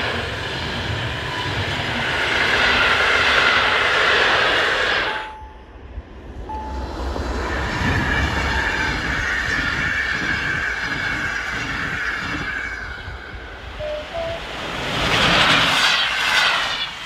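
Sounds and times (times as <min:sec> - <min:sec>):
train wheels running on rails: 0:00.0 - 0:17.0.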